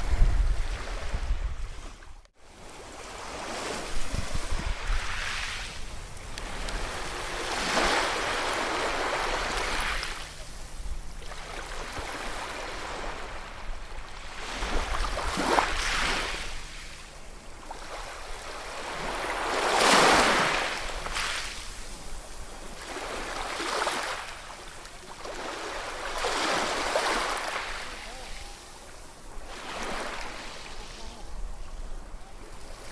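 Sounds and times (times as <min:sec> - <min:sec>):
ocean waves breaking on shore: 0:00.0 - 0:32.9.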